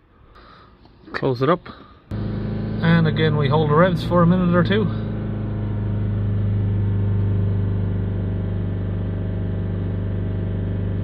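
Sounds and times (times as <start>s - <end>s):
diesel engine held at high revs: 2.1s - 11.0s.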